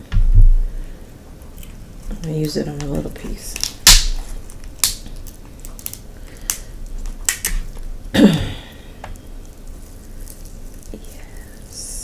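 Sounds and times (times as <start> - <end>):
crab shell cracking: 1.4 - 8.0, 8.6 - 11.9.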